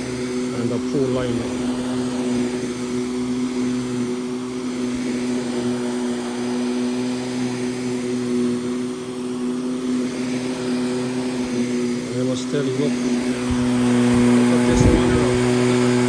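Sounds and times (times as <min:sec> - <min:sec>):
vacuum cleaner motor hum: 0:00.0 - 0:16.0.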